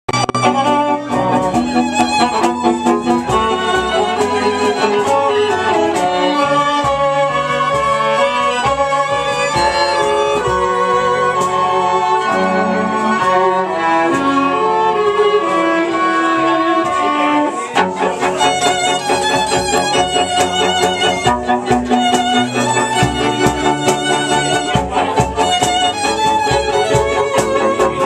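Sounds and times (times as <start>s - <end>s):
cello: 0.1s - 28.0s
fiddles playing a tune: 0.1s - 28.0s.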